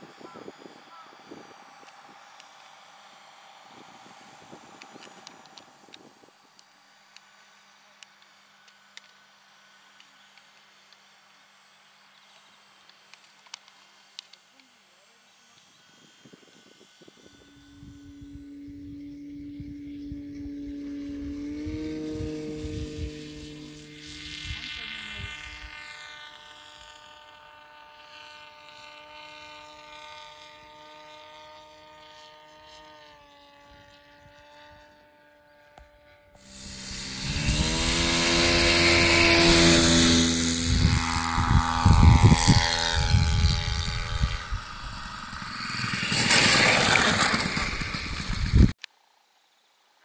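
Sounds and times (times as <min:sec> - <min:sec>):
faint model motor whine: 0:00.0 - 0:48.8
model aircraft engine running hard: 0:00.0 - 0:48.8.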